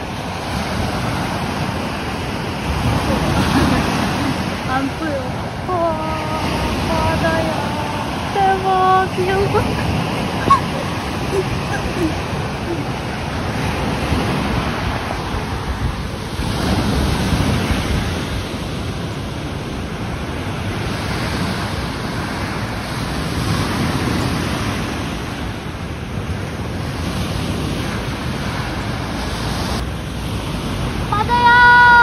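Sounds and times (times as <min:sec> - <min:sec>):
waves breaking on beach: 0:00.0 - 0:32.0
wind rumbling on microphone: 0:00.0 - 0:32.0.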